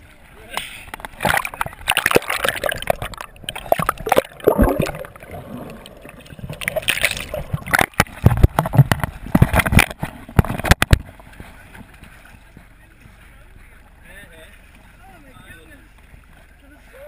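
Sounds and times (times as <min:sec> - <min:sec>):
water splashing and gurgling: 0:00.0 - 0:15.1.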